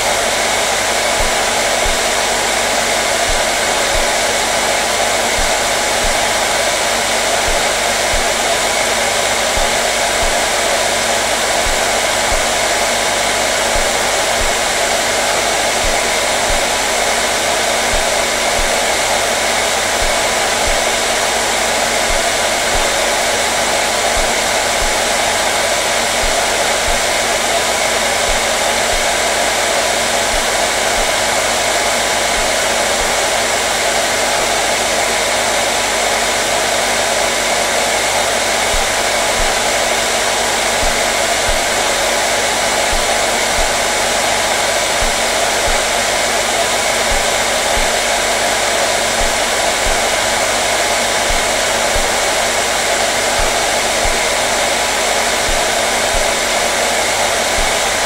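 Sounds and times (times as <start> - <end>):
hair dryer blowing air: 0.0 - 58.0.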